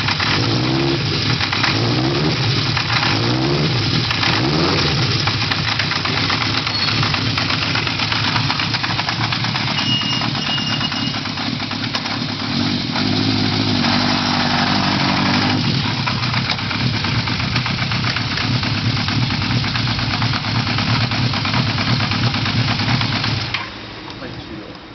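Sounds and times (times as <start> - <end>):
motorcycle engine idling with clatter: 0.0 - 24.9.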